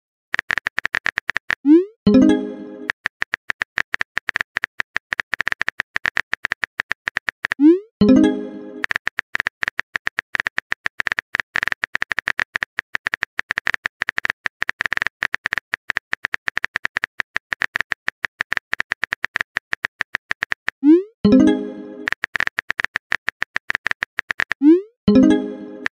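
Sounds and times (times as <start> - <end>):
keyboard typing taps: 0.4 - 25.9.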